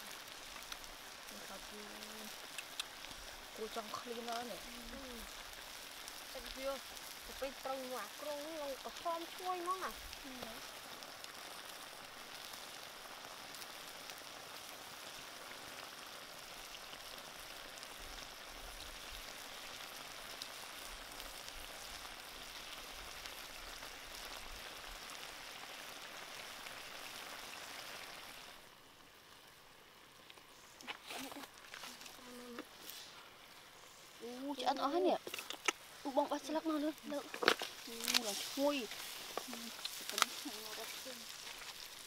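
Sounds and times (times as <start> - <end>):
sauce boiling and bubbling: 0.0 - 42.0.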